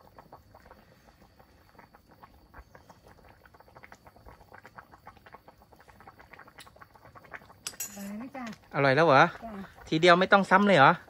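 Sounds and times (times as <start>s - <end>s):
curry simmering popping: 0.0s - 11.0s.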